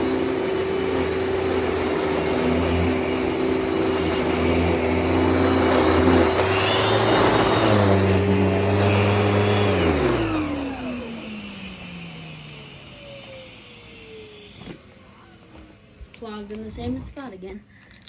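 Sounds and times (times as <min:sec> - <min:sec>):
vacuum motor winding down: 0:00.0 - 0:15.8
vacuum cleaner running: 0:00.0 - 0:17.4.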